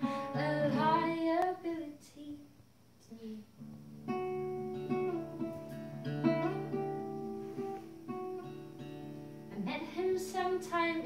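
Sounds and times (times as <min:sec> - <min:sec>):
acoustic guitar: 0:00.0 - 0:02.0, 0:03.2 - 0:11.0.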